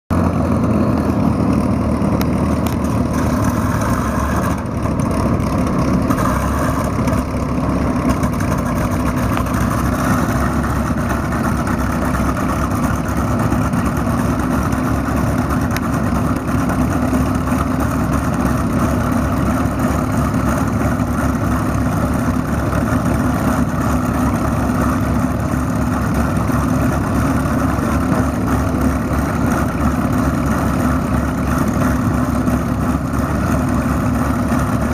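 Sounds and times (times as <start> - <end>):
aircraft engines idling: 0.1 - 34.9.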